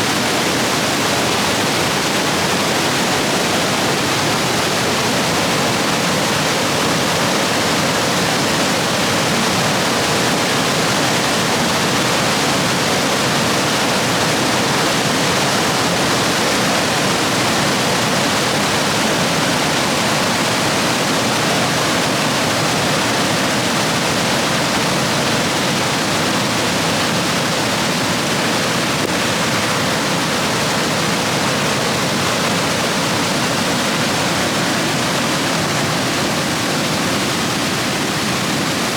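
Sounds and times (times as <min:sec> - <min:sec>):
roar of stream rapids: 0:00.0 - 0:38.9.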